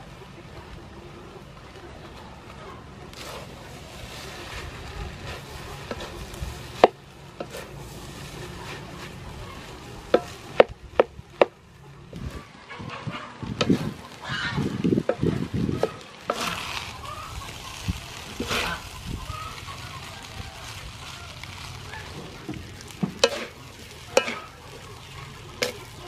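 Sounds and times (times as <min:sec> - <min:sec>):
spatula scraping metal wok: 0:03.1 - 0:11.5, 0:12.2 - 0:14.2, 0:14.9 - 0:20.1, 0:20.7 - 0:26.0.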